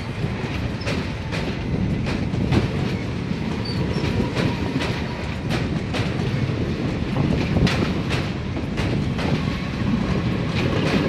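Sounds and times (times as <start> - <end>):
train low rumble: 0.0 - 11.0
train wheels clickety-clack: 0.0 - 11.0.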